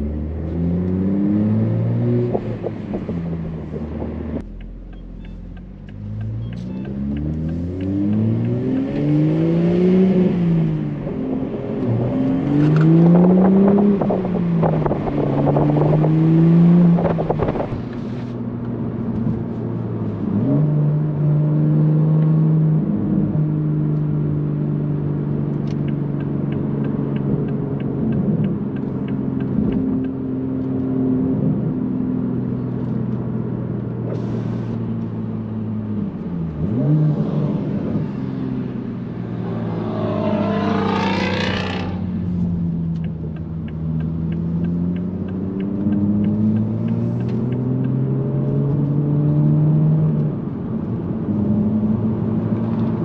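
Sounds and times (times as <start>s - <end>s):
car engine and exhaust driving: 0.0s - 53.0s.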